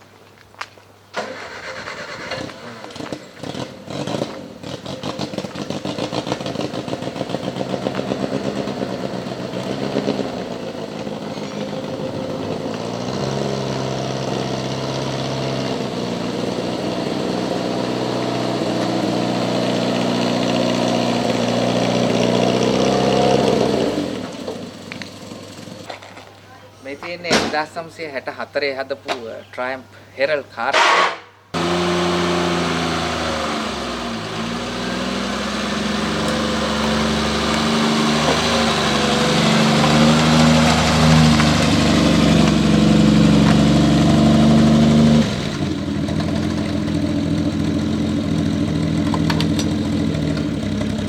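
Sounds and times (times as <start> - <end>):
car engine cranking and running: 1.2 - 25.9, 31.6 - 51.0.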